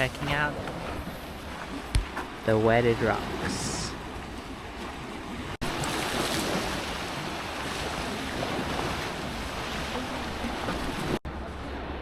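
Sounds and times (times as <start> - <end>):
sea surf washing in: 0.0 - 12.0.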